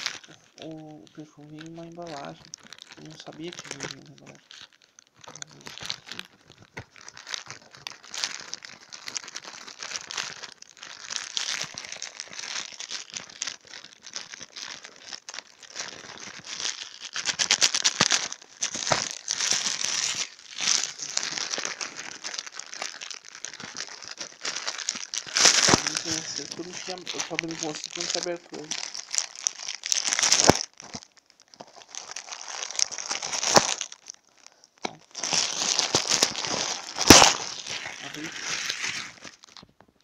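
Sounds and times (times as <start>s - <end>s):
bubble wrap crackling: 0.0s - 40.0s.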